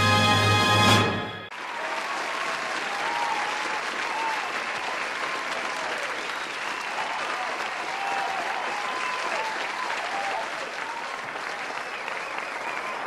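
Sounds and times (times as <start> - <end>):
audience applauding: 0.9 - 13.0.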